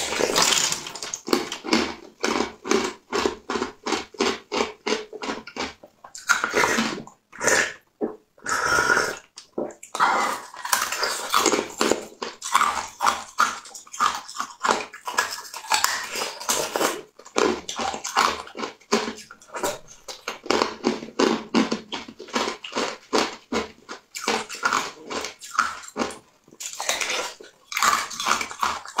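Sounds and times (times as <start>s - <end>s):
wet mouth eating sounds: 0.0s - 29.0s.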